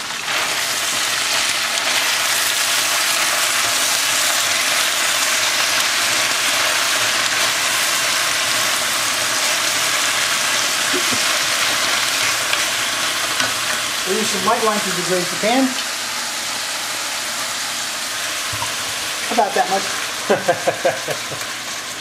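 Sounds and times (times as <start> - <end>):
greens sizzling in a frying pan: 0.0 - 22.0.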